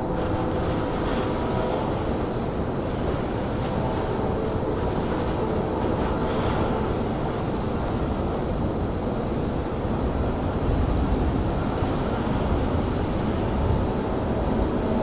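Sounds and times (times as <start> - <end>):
thin high whine: 0.0 - 15.0
train low rumble: 0.0 - 15.0.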